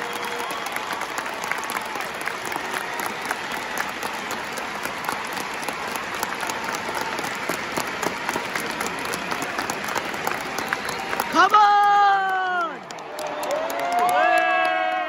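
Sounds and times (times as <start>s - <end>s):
crowd noise: 0.0s - 15.0s
hand claps: 0.0s - 15.0s.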